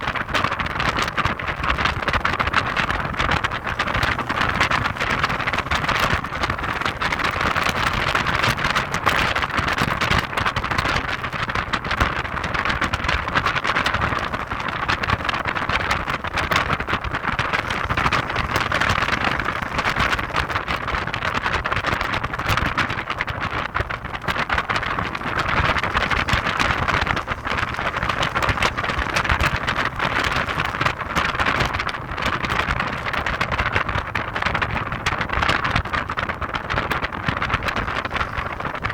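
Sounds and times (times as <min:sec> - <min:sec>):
car road noise: 0:00.0 - 0:38.9
wind buffeting microphone: 0:00.0 - 0:38.9.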